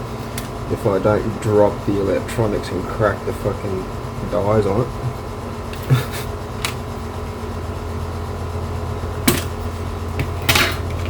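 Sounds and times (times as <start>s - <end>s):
steady low room hum: 0.0s - 11.0s.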